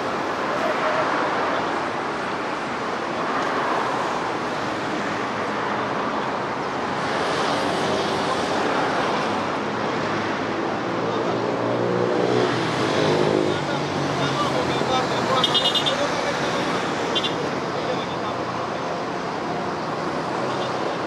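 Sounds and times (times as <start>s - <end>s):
highway traffic roar: 0.0s - 21.0s.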